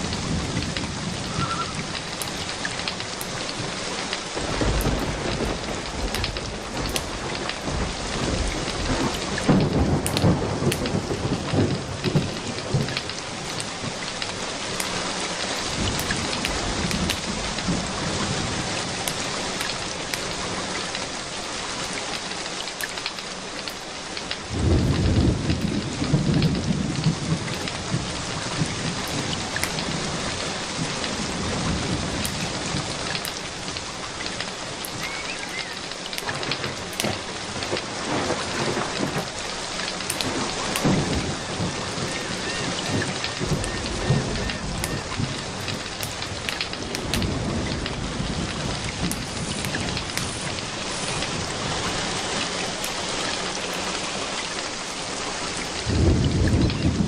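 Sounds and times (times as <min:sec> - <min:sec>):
thunder rolling: 0:00.0 - 0:20.9, 0:24.5 - 0:53.3, 0:55.6 - 0:57.0
steady rain: 0:00.0 - 0:57.0
wood fire crackling: 0:00.0 - 0:57.0.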